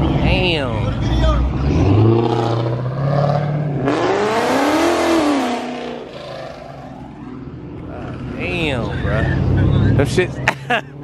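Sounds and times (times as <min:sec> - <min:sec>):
car accelerating hard: 0:01.0 - 0:10.4.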